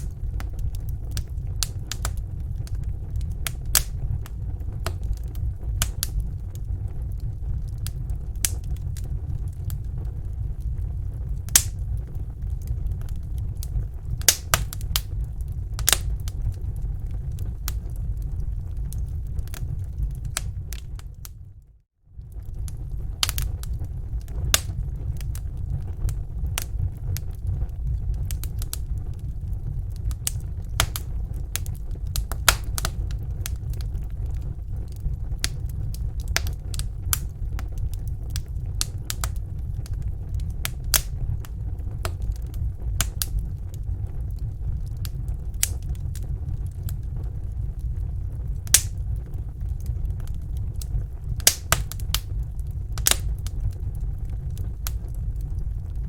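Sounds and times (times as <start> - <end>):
campfire crackling and popping: 0.0 - 56.0
low rumble: 0.0 - 56.0.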